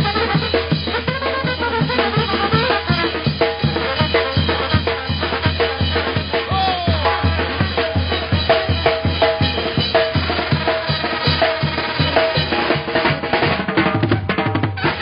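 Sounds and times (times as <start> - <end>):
drum beat: 0.0 - 15.0.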